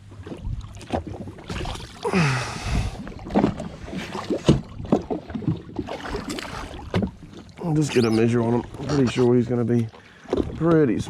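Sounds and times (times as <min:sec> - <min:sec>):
knocks and clatter on jet ski: 0:00.0 - 0:02.0, 0:03.1 - 0:11.0.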